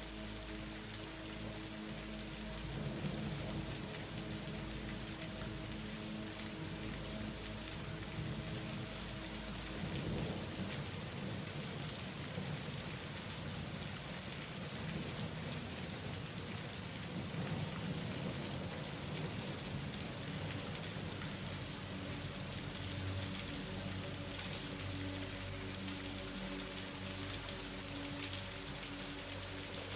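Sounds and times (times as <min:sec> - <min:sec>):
heavy rain: 0:00.0 - 0:29.9
soft sustained music tones: 0:00.0 - 0:29.9.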